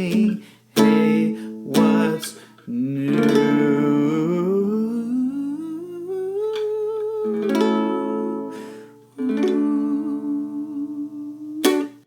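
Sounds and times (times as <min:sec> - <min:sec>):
strummed string chords: 0:00.0 - 0:05.2, 0:06.6 - 0:12.0.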